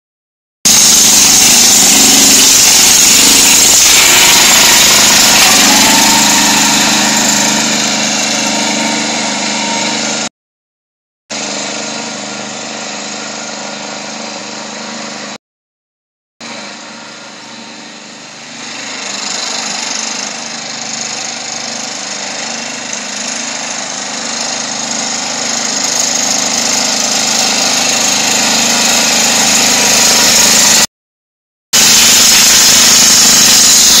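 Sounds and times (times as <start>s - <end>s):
ride-on lawn mower engine running: 0.7s - 10.3s, 11.3s - 15.4s, 16.4s - 30.9s, 31.8s - 34.0s.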